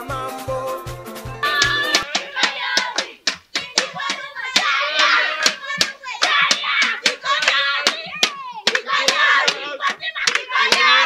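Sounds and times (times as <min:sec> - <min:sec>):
group clapping in rhythm: 0:00.4 - 0:11.0
voices calling out: 0:01.4 - 0:11.0.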